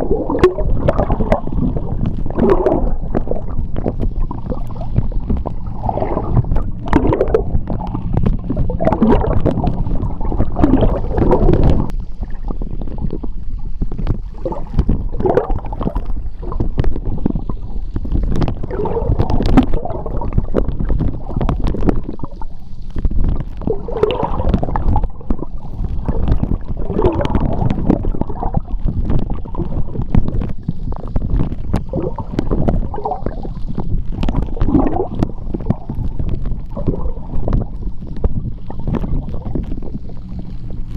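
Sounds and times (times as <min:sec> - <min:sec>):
gurgling bubbles: 0:00.0 - 0:40.9
underwater water rumble: 0:00.0 - 0:40.9.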